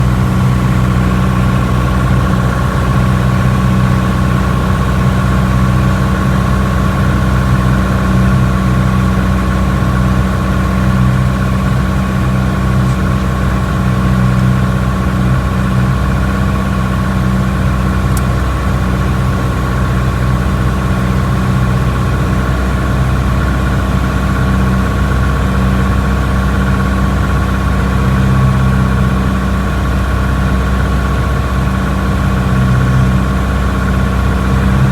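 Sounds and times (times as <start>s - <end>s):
propeller plane engine droning: 0.0s - 34.9s.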